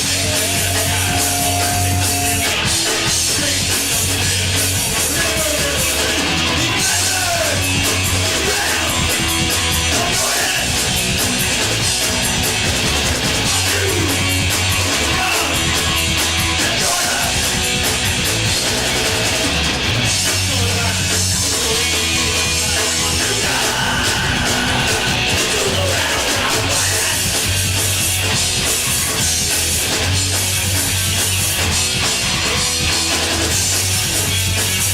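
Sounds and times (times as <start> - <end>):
bass guitar: 0.0 - 34.9
distorted electric guitars: 0.0 - 34.9
drum kit with crashing cymbals: 0.0 - 34.9.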